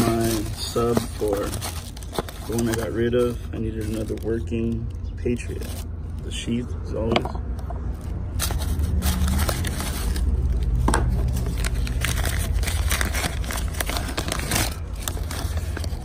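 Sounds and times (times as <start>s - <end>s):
paper crinkling and rustling: 0.0s - 6.6s, 7.9s - 16.0s.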